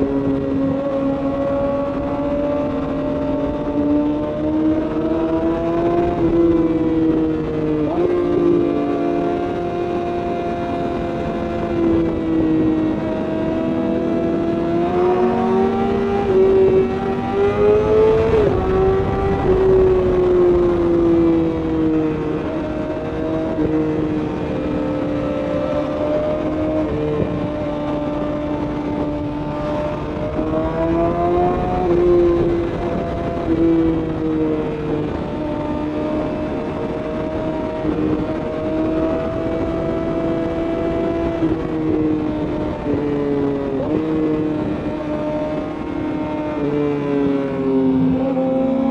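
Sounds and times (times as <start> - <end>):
motorcycle engine revving: 0.0 - 48.9
wind noise: 0.0 - 48.9.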